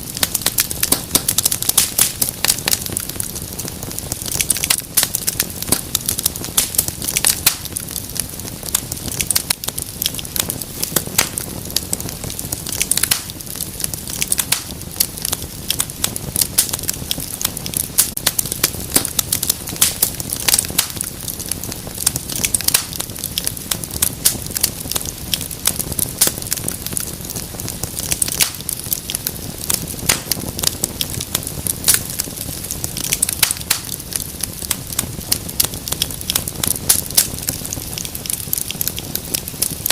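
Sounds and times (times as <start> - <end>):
low hiss of flames: 0.0 - 39.9
wood fire crackling and popping: 0.0 - 39.9.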